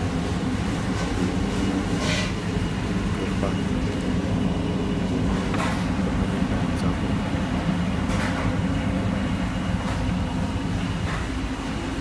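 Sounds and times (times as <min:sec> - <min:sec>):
dishwasher hum and rumble: 0:00.0 - 0:12.0.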